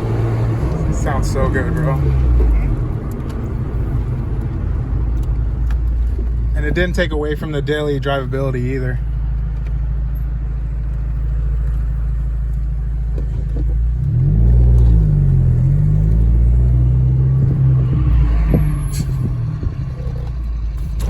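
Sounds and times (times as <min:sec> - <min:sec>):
car engine and road drone: 0:00.0 - 0:21.0.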